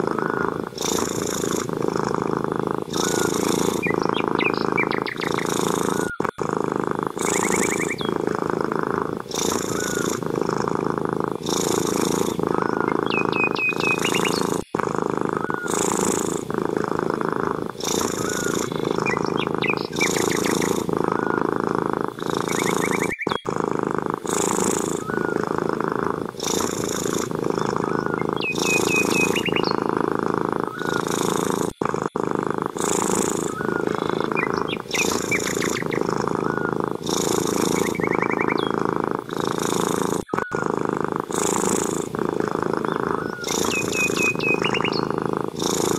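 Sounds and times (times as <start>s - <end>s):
cat purring loudly: 0.0s - 45.9s.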